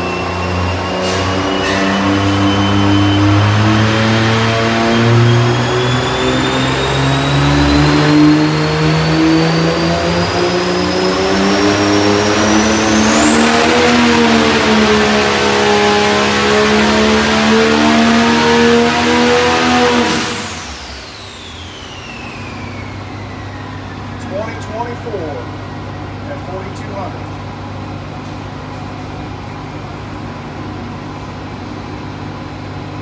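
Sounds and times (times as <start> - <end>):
diesel engine under full load: 0.0 - 33.0
high turbo whine: 0.0 - 33.0.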